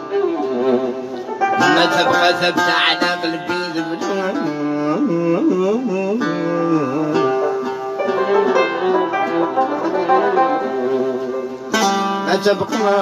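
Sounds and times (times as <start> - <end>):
plucked string instruments playing: 0.0 - 13.0.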